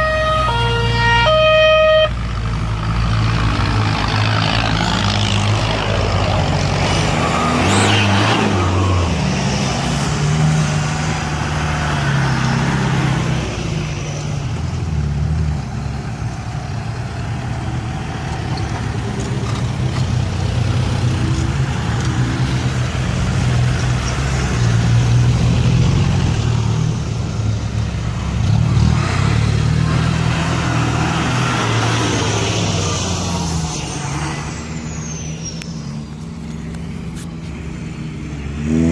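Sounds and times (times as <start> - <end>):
off-road vehicles driving past: 0.0 - 38.9.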